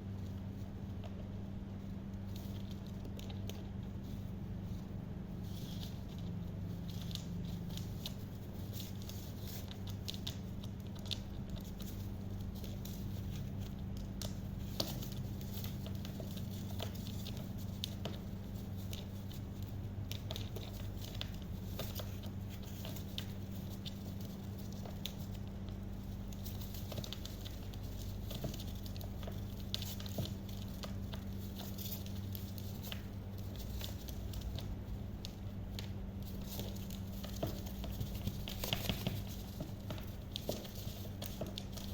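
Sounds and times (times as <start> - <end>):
parrot beak and claws scratching: 0.0 - 41.9
steady low hum: 0.0 - 41.9.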